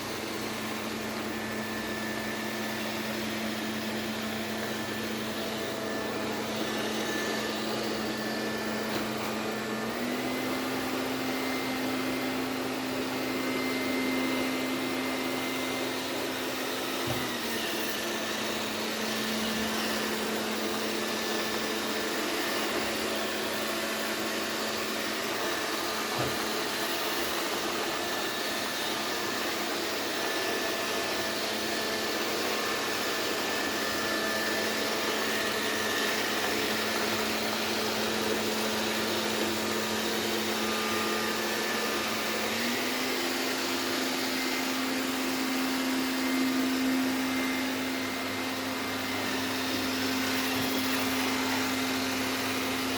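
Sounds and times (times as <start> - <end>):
robot vacuum cleaner whirring: 0.0 - 52.9.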